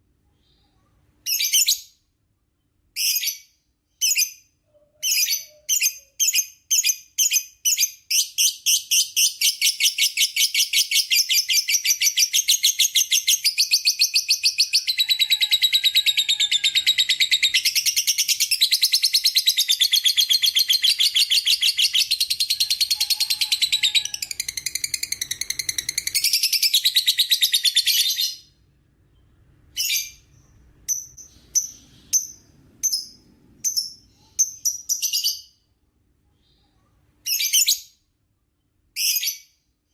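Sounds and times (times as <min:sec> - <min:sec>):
bird chirps: 0:02.6 - 0:35.7.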